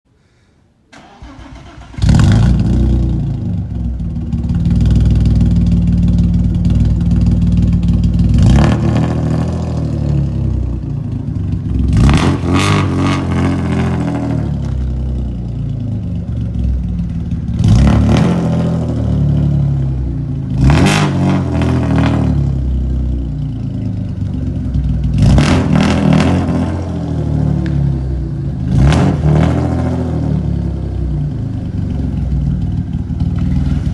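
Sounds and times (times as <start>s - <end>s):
loud car engine idling and blipped: 1.0s - 33.9s.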